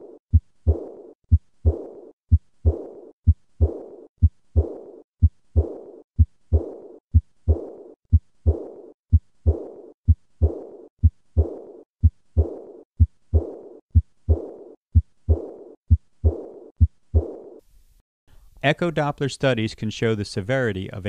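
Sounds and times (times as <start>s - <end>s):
high-pitched heart murmur: 0.0s - 17.5s
low heart sounds: 0.0s - 17.6s.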